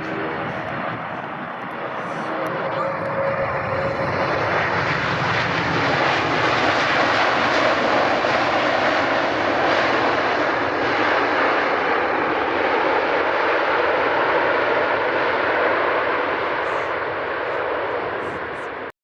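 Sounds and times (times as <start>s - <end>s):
jet engines rushing: 0.0s - 18.9s.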